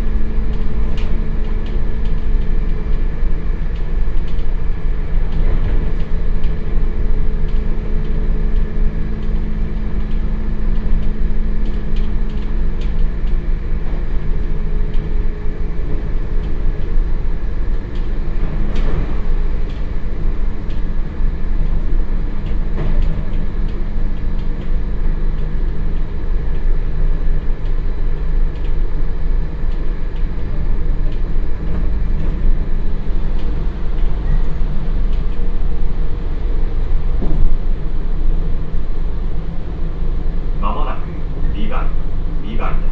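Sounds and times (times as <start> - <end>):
train wheels rumbling on rail: 0.0 - 27.9, 28.7 - 42.9
low electrical hum: 0.0 - 42.9.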